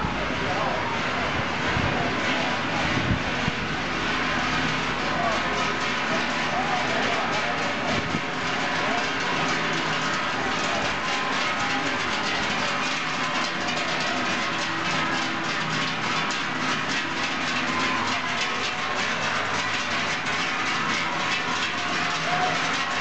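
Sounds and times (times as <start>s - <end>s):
cowbells clanging: 2.2s - 23.0s.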